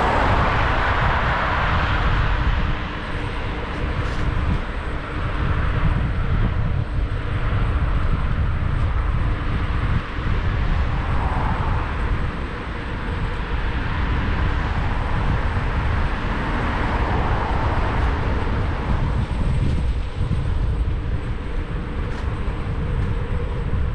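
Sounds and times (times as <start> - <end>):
road and traffic noise: 0.0 - 23.9
wind rumbling on microphone: 0.0 - 23.9.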